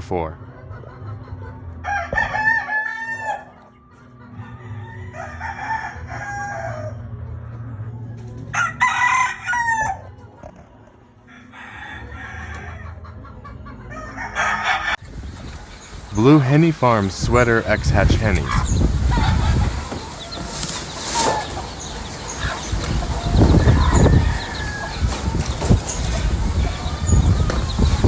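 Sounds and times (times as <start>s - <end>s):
roosters crowing: 1.6s - 7.4s, 8.1s - 10.5s, 11.2s - 28.0s.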